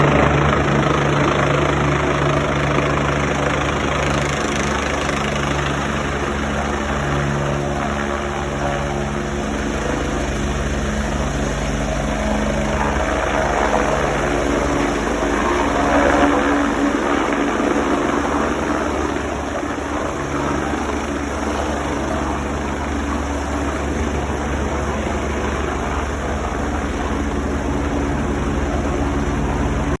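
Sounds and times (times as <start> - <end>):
helicopter rotor and turbine: 0.0 - 30.0.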